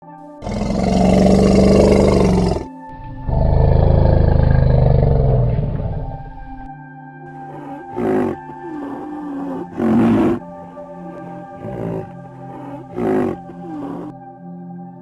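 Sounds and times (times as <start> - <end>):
tiger roaring: 0.4 - 6.2, 7.4 - 14.1.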